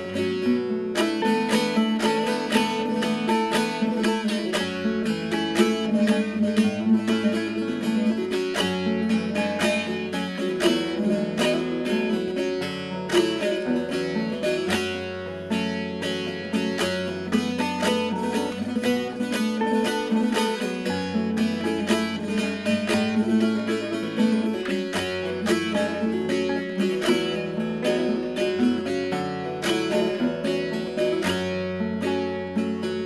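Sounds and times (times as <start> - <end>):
classical guitar chords: 0.0 - 33.0
long-necked lute strummed and picked: 0.0 - 33.0.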